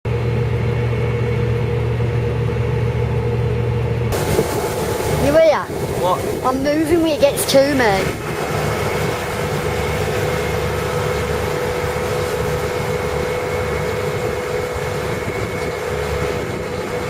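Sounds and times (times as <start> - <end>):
constant mechanical whine: 0.0 - 17.0
low mechanical rumble: 0.0 - 17.0.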